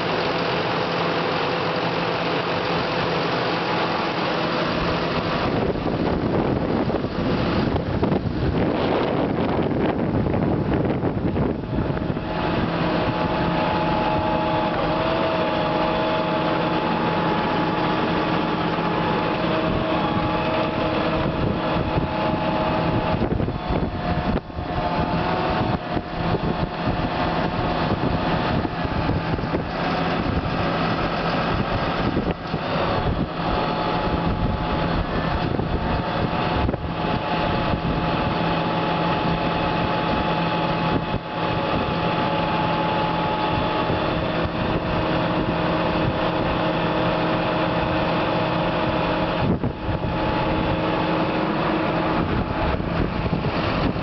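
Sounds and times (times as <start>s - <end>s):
steady whine: 0.0s - 54.0s
tractor diesel engine idling: 0.0s - 54.0s.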